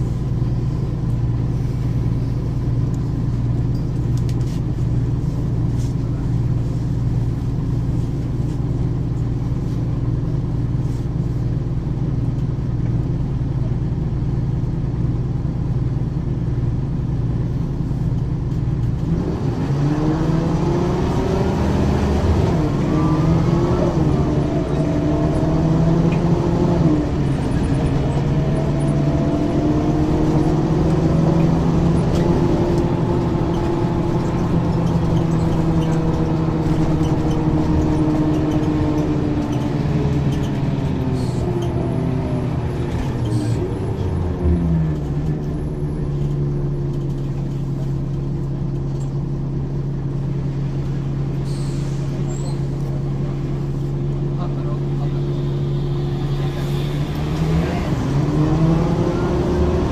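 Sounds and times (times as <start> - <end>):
bus diesel engine: 0.0 - 59.9.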